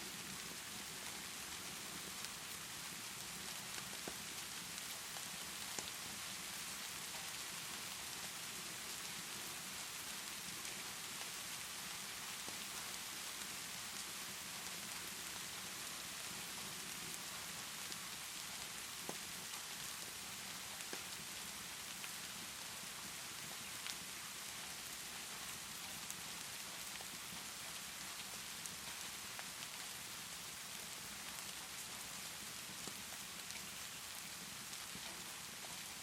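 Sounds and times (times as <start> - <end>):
steady rainfall: 0.0 - 36.0.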